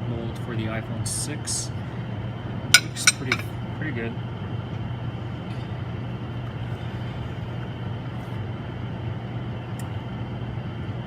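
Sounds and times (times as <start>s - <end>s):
low machine hum: 1.6s - 11.0s.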